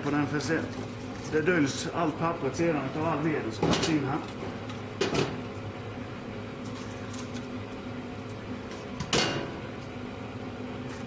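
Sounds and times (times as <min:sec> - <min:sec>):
draught fan humming: 0:00.0 - 0:11.0.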